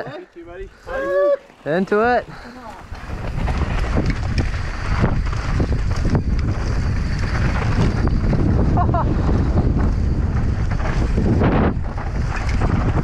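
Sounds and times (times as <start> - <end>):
bike tyres rattling on dirt trail: 0.0 - 13.0
wind buffeting microphone: 0.4 - 13.0.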